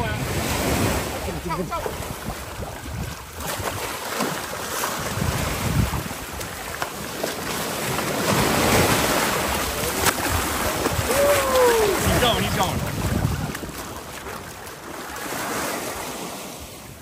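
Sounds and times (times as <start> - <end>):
surf breaking on beach: 0.0 - 17.0
wind buffeting microphone: 0.0 - 17.0
shark thrashing in water: 1.9 - 15.9.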